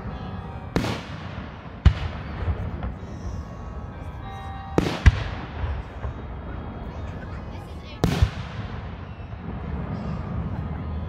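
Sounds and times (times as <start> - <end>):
fireworks bursting: 0.6 - 3.6, 4.7 - 11.0.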